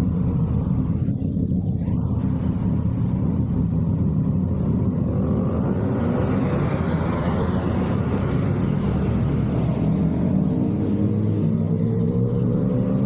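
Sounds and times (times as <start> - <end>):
motorcycle exhaust rumble: 0.0 - 13.0.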